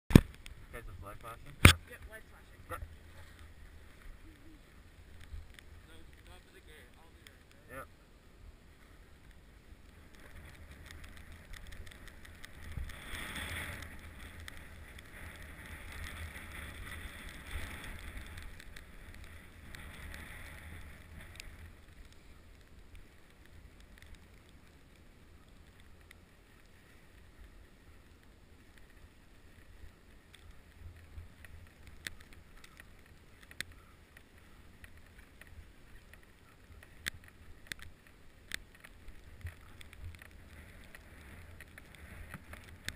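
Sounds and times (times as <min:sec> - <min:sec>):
ski sliding over snow: 0:00.1 - 0:07.9, 0:08.6 - 0:42.9.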